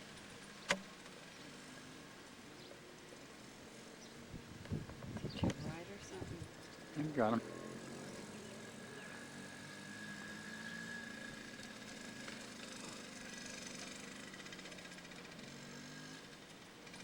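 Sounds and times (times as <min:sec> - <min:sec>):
dirt bike engine running: 0:03.2 - 0:17.0.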